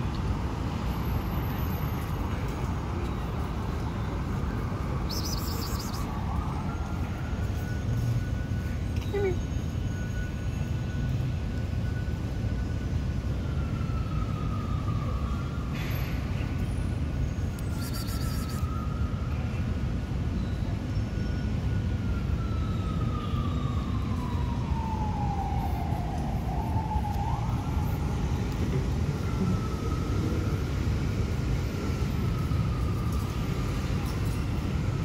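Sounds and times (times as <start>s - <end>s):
city traffic rumble: 0.0s - 35.0s
distant siren wailing: 3.6s - 20.4s, 21.2s - 35.0s.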